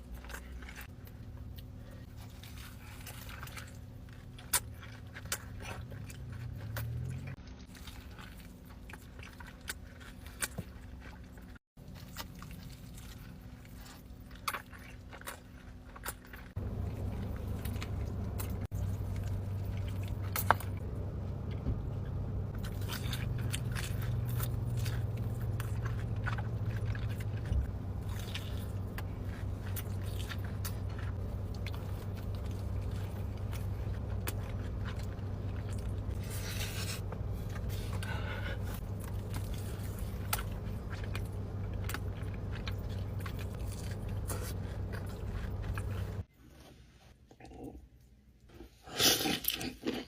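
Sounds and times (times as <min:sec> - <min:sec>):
crunchy chewing: 0:00.0 - 0:46.3, 0:48.8 - 0:50.0
low hum: 0:00.0 - 0:46.3.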